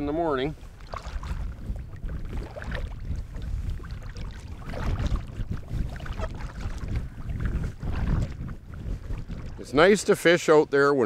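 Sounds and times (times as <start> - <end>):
water lapping and splashing: 0.0 - 11.0
wind buffeting microphone: 0.0 - 11.0.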